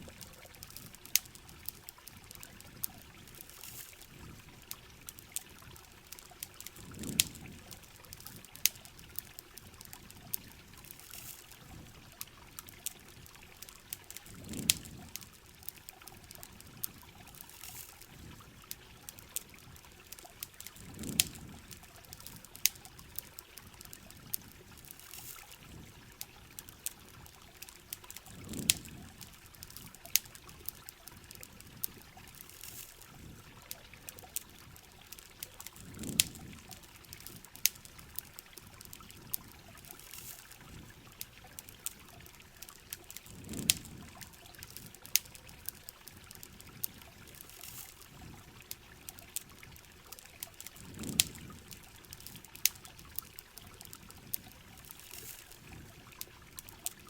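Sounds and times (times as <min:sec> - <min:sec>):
campfire crackling and popping: 0:00.0 - 0:57.0
steady rain: 0:00.0 - 0:57.0
trickling pouring water: 0:00.0 - 0:57.0.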